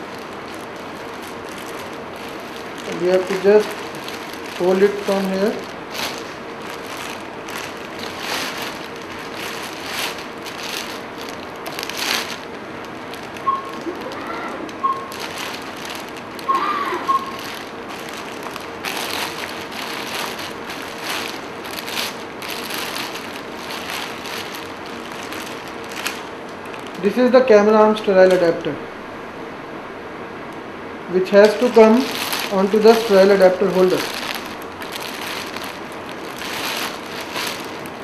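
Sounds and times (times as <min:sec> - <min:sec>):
plastic drape crinkling: 0:00.0 - 0:27.2, 0:31.2 - 0:38.0.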